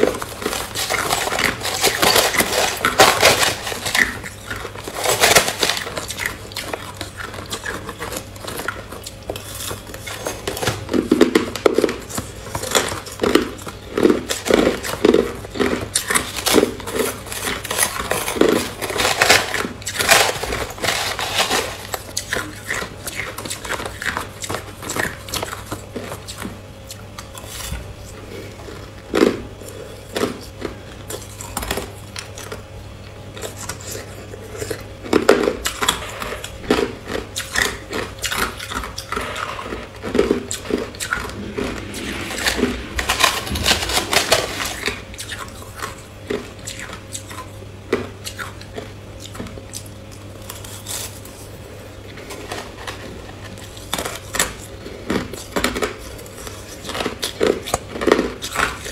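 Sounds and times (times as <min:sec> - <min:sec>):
ice crunched and chewed: 0:00.0 - 0:42.6, 0:43.2 - 0:58.9.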